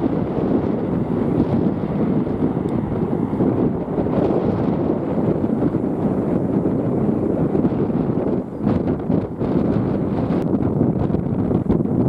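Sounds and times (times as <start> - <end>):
jet engines at takeoff thrust: 0.0 - 12.0
wind buffeting the microphone: 0.0 - 12.0.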